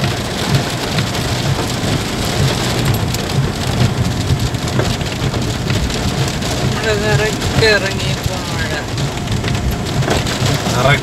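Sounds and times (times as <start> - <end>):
engine and road rumble: 0.0 - 11.0
heavy rain on car roof: 0.0 - 11.0.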